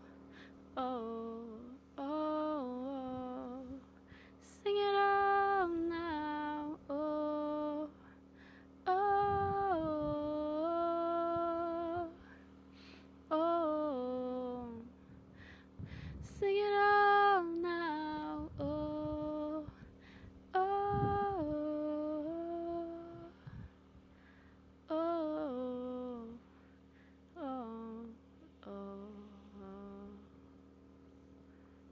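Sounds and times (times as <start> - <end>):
faint steady tones: 0.0 - 31.9
woman humming a slow melody: 0.0 - 31.9.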